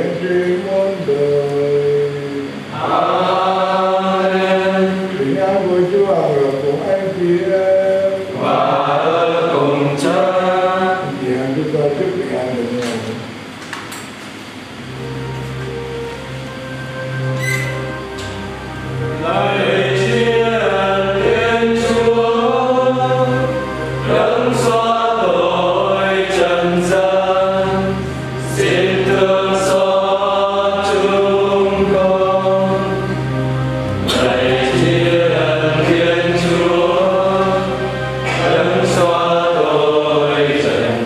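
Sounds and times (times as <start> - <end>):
choir singing chant: 0.0 - 11.2, 18.2 - 41.0
low steady accompaniment: 0.0 - 13.5, 14.6 - 41.0.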